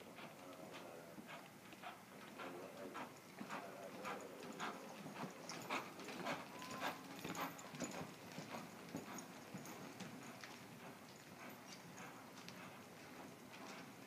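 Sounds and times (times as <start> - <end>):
horse hoofbeats on soft dirt: 0.0 - 14.0.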